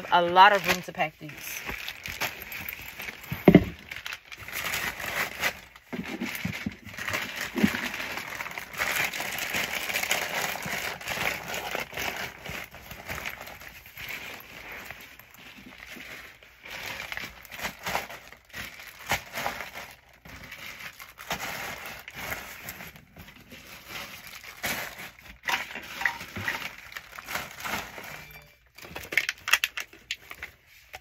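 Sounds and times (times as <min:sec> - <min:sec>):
small items clinking together: 0:00.0 - 0:20.2, 0:23.8 - 0:31.0
packaging rustling: 0:00.0 - 0:31.0.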